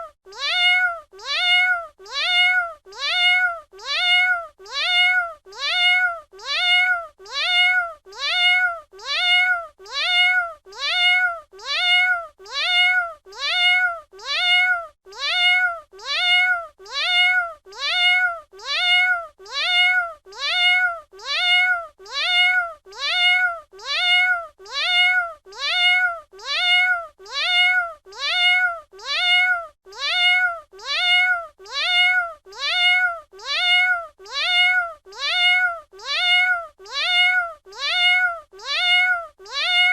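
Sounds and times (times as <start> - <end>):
cat meowing: 0.0 - 39.9.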